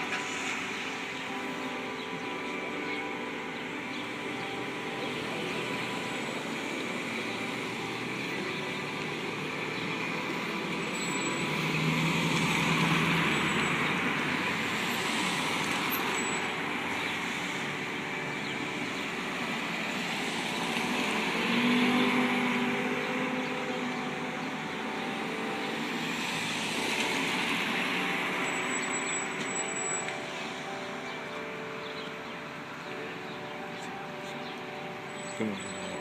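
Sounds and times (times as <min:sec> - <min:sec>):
church bells pealing: 0:00.0 - 0:36.0
passing traffic: 0:00.0 - 0:36.0.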